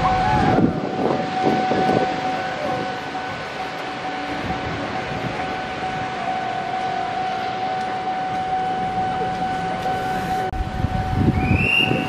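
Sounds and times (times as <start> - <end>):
high-pitched train tone: 0.0 - 12.0
train rumble: 0.0 - 12.0.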